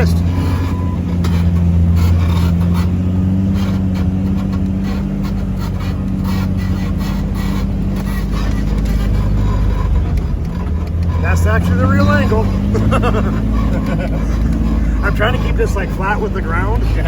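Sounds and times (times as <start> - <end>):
knocks and rattles: 0.0 - 17.0
off-road vehicle engine running: 0.0 - 17.0.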